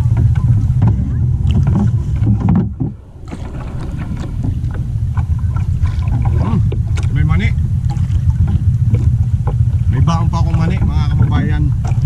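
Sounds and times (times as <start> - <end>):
water splashes and knocks: 0.0 - 12.0
wind and water rumble: 0.0 - 12.0.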